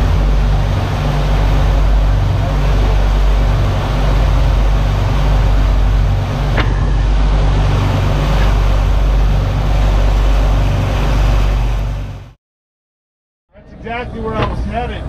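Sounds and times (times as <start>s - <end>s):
boat engines droning: 0.0s - 12.4s, 13.6s - 15.0s.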